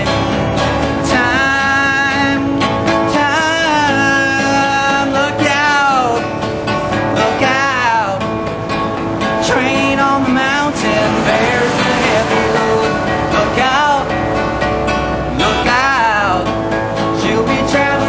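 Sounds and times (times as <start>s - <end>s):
man singing: 0.0s - 6.4s, 7.0s - 8.3s, 9.3s - 14.6s, 15.2s - 18.0s
acoustic guitar strumming: 0.0s - 18.0s.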